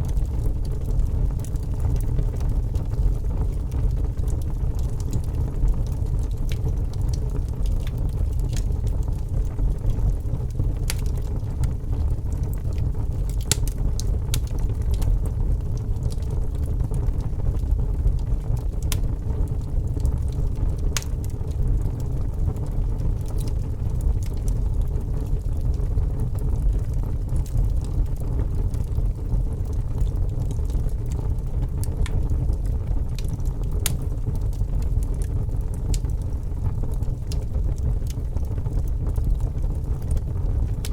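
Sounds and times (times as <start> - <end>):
burning wood crackling and popping: 0.0 - 40.9
flames rumbling in a fireplace: 0.0 - 40.9.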